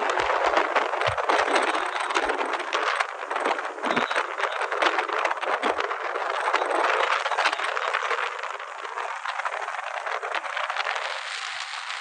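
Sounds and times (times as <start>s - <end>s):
vehicle rattling and road noise: 0.0s - 12.0s.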